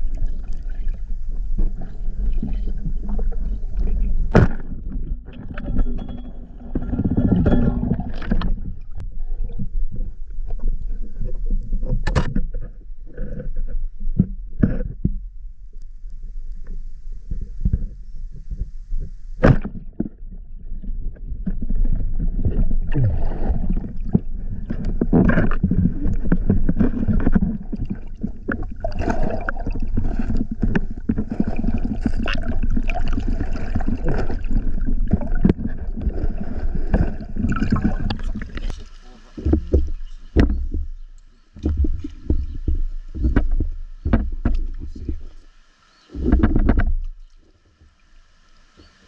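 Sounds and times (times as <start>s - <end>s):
knocks and bumps underwater: 0.0s - 45.4s, 46.1s - 47.3s
muffled underwater churning: 0.0s - 49.0s.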